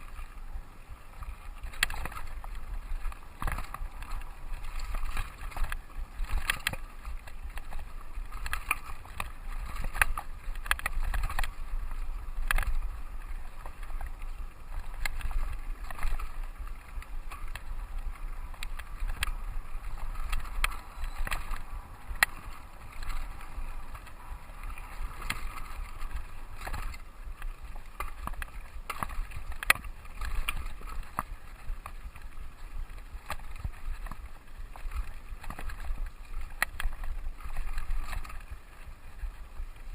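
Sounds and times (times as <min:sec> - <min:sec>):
bike clicking and rattling: 0:00.0 - 0:39.9
wind and tyre noise: 0:00.0 - 0:39.9.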